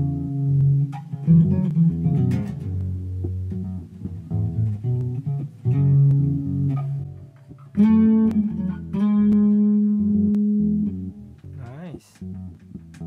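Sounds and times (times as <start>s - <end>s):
plucked electric bass notes: 0.0s - 13.0s.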